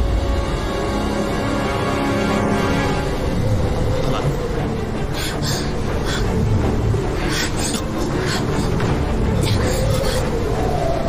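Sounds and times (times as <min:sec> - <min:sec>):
wind rumbling: 0:00.0 - 0:11.0.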